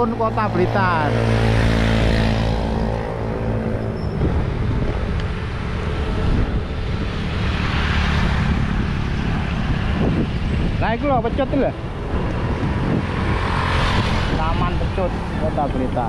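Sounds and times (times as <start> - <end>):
road traffic: 0.0 - 16.0
vehicle engine hum: 0.0 - 16.0
wind noise: 0.0 - 16.0.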